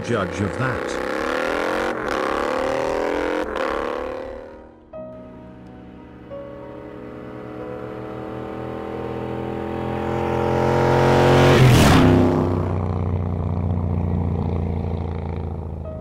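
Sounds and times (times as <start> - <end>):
motorcycle engine passing by: 0.0 - 16.0.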